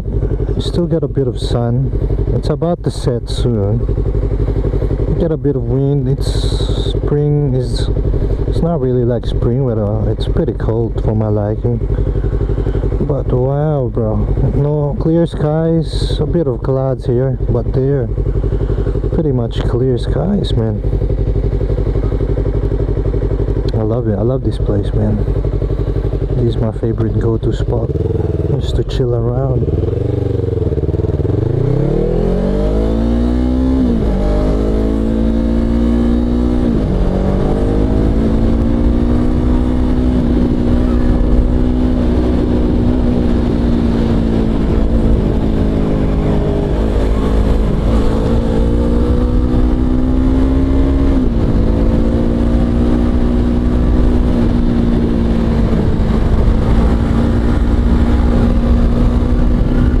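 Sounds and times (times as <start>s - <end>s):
low wind rumble on microphone: 0.0s - 60.0s
motorcycle engine accelerating: 0.0s - 60.0s.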